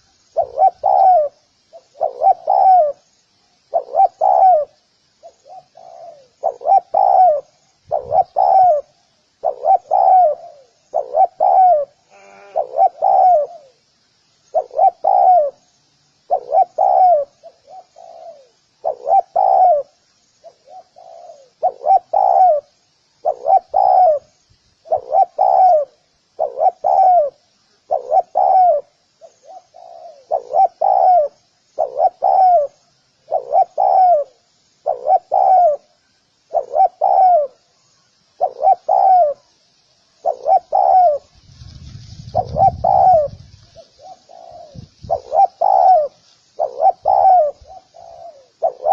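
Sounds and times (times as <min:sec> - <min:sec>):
dove cooing: 0:00.0 - 0:03.0, 0:03.7 - 0:13.8, 0:14.5 - 0:15.7, 0:16.3 - 0:39.5, 0:40.2 - 0:48.9
faint high insect buzz: 0:00.0 - 0:48.9.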